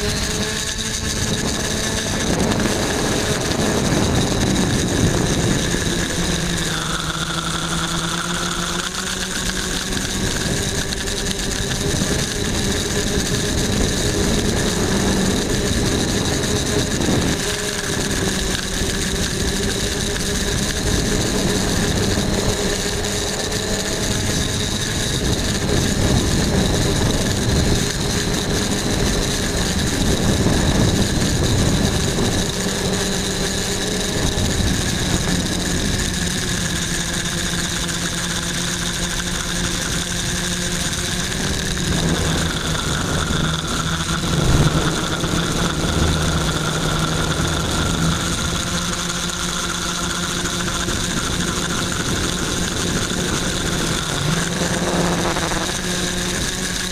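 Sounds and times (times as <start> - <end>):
drone propellers whining: 0.0 - 56.9.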